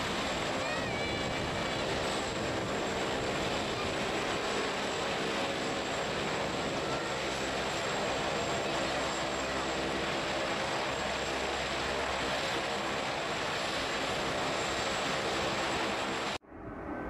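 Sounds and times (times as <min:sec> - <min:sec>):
helicopter engines and rotor: 0:00.0 - 0:17.0
high turbine whine: 0:00.0 - 0:17.0.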